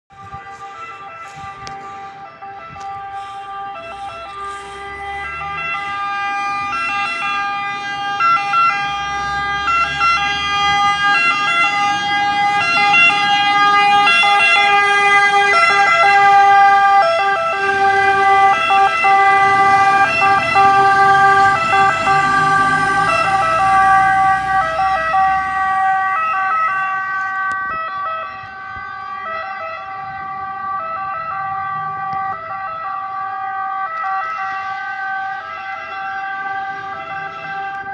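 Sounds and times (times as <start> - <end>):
truck engine noise: 0.1 - 37.9
two-tone fire engine sirens: 0.1 - 37.9.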